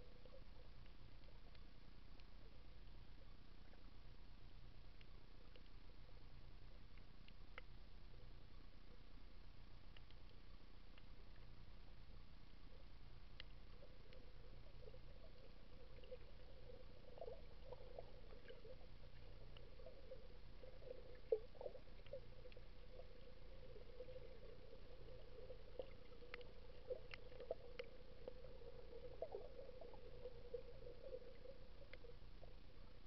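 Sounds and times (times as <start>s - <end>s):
small clicks and crackles: 0.0s - 4.0s, 4.8s - 33.0s
faint underwater hum: 0.0s - 33.0s.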